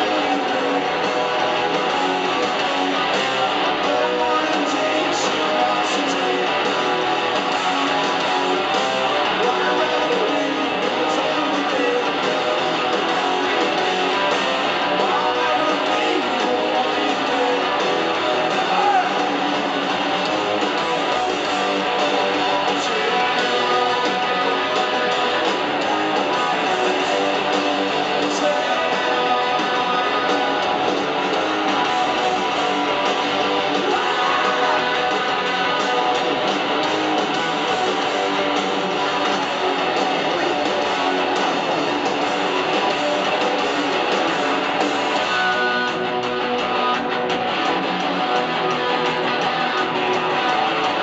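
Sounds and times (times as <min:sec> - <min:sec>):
rock band playing live: 0:00.0 - 0:51.0.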